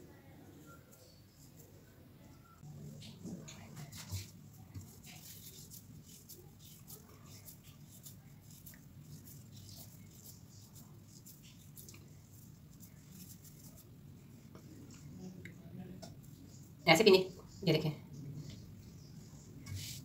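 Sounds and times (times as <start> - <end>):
crumbly mixture crackling: 0.3 - 17.6.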